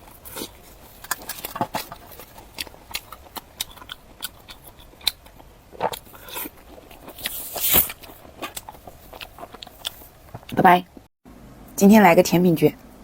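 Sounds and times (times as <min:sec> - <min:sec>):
crunching and chewing: 0:00.0 - 0:11.1.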